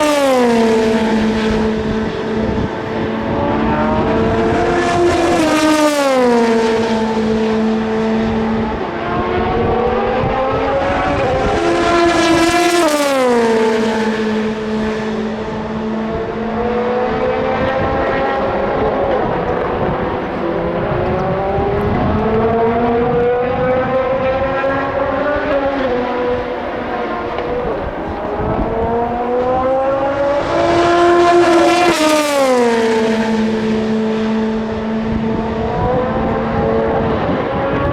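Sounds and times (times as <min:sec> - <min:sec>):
race car engines at high speed: 0:00.0 - 0:37.9
race car passing by: 0:00.0 - 0:37.9.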